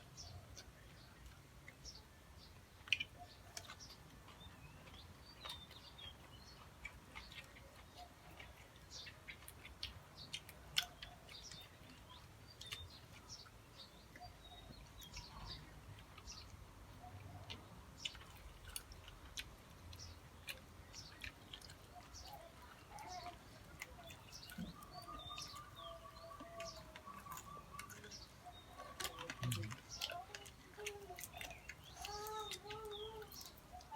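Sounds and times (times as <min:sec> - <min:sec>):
small birds chirping: 0:00.0 - 0:33.9
person chewing: 0:02.7 - 0:16.7, 0:17.3 - 0:33.9.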